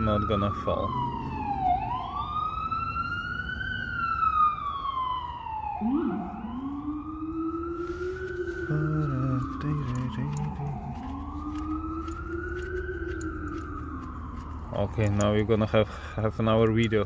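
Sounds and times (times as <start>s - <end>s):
lower siren: 0.0s - 17.0s
siren wailing: 0.0s - 17.0s.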